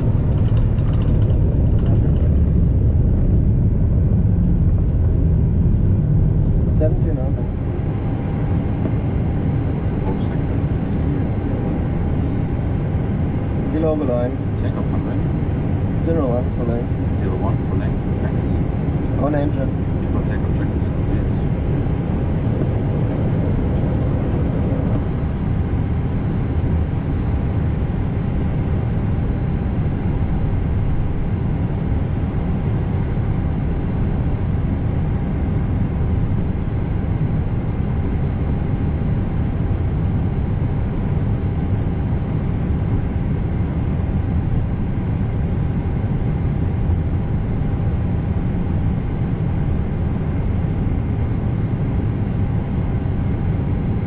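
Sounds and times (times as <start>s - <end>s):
airliner taxiing rumble: 0.0s - 54.0s
faint steady whine: 0.0s - 54.0s.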